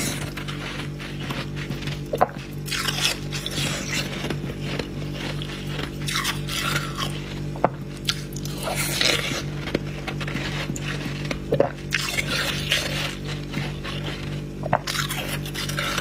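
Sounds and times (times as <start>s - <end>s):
frost being bitten and chewed: 0.0s - 16.0s
steady low hum: 0.0s - 16.0s.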